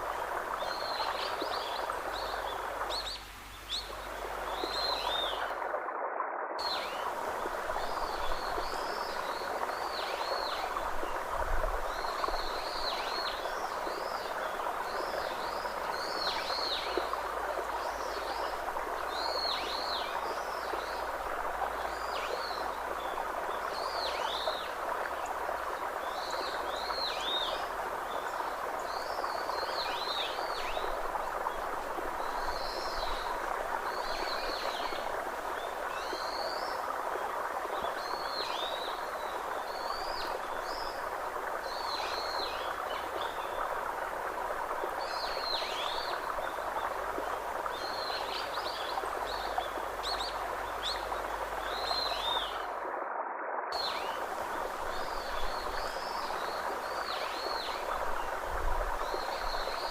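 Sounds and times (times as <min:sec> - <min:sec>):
flowing water: 0:00.0 - 0:59.9.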